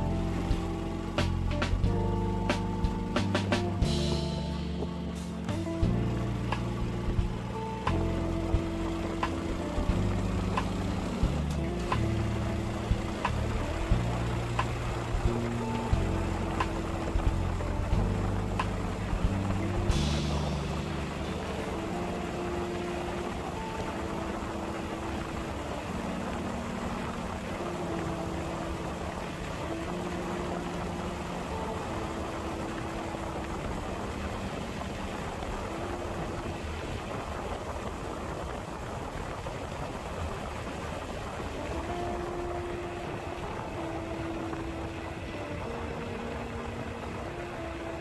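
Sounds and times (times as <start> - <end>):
faint background music: 0.0 - 48.0
ride engine noise: 0.0 - 48.0
rushing wind: 0.0 - 48.0.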